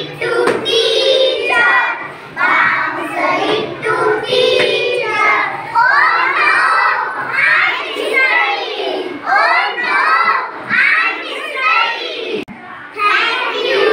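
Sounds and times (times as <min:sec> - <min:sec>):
children singing in unison: 0:00.0 - 0:13.9.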